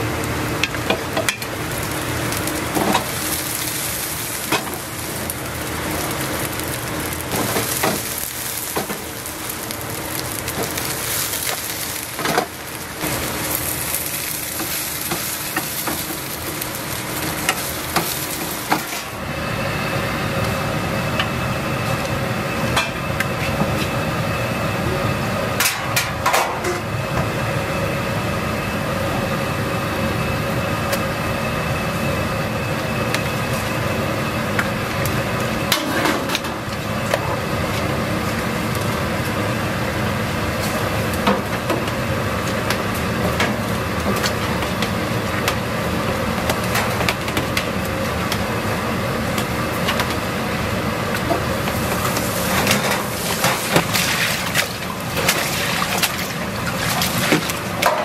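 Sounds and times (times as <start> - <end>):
water boiling in a pot: 0.0 - 58.0.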